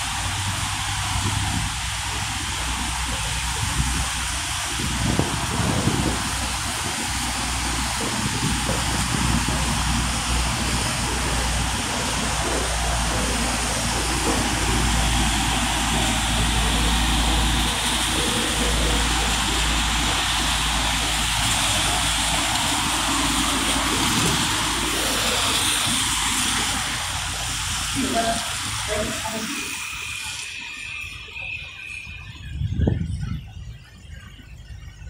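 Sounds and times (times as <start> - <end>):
steady low rumble: 0.0 - 29.4, 32.0 - 35.0
tyres hissing on wet road: 0.0 - 33.0
vehicles passing: 0.0 - 35.0.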